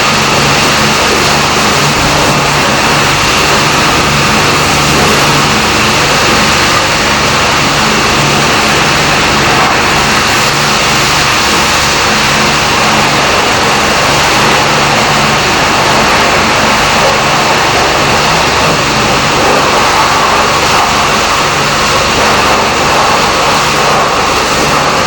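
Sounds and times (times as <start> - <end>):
car wash rushing noise: 0.0 - 25.0
low motor hum: 0.0 - 25.0.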